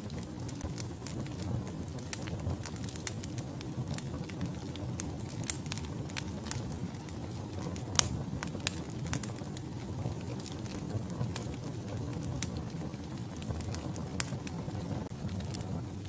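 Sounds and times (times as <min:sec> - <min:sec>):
fire flame rush: 0:00.0 - 0:16.0
wood crackling and popping: 0:00.0 - 0:16.0.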